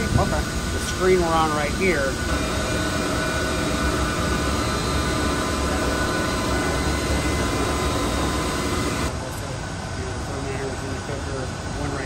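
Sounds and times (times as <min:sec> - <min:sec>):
deep machinery hum: 0:00.0 - 0:12.0
steady whining tones: 0:00.0 - 0:12.0.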